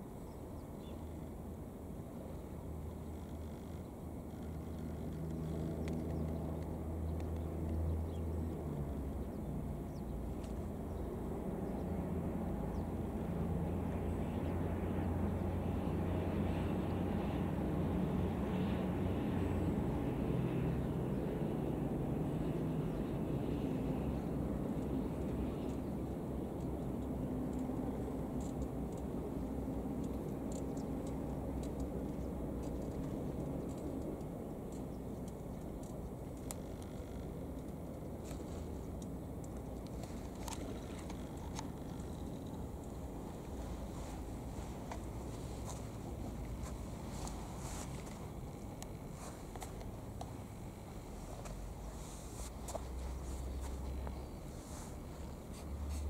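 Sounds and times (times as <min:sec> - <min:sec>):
distant city traffic rumble: 0:00.0 - 0:56.0
distant engine drone: 0:00.0 - 0:56.0.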